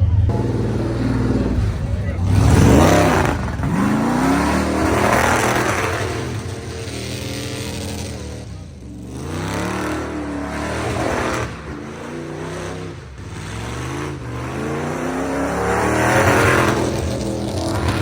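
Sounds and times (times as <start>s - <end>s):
drag racing engine accelerating: 0.0s - 18.0s.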